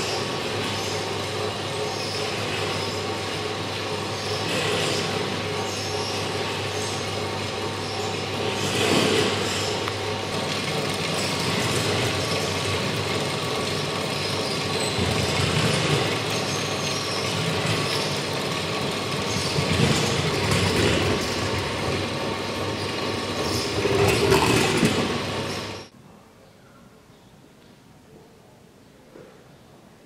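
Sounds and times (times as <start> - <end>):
electric motor hum: 0.0 - 25.9
mechanical whirring and rattling: 0.0 - 25.9.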